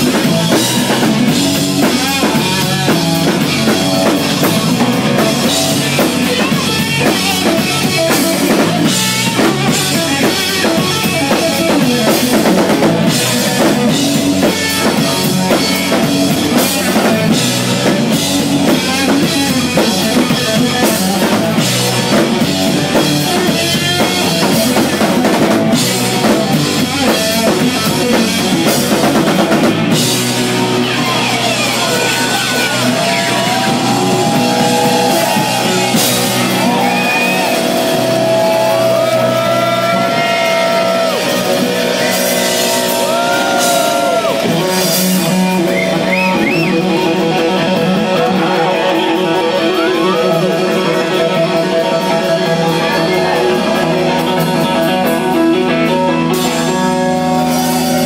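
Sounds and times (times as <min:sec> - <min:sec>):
bass guitar: 0:00.0 - 0:58.0
drum kit with cymbal hits: 0:00.0 - 0:58.0
electric guitar with bent notes: 0:00.0 - 0:58.0.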